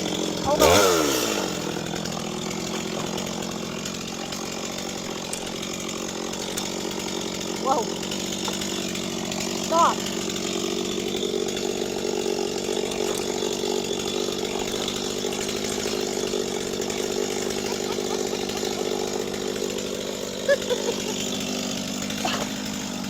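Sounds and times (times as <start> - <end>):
chainsaw running: 0.0 - 23.0.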